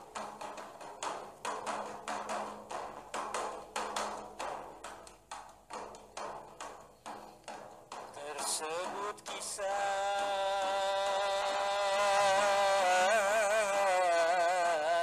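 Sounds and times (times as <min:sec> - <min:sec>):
wood block strikes: 0:00.0 - 0:15.0.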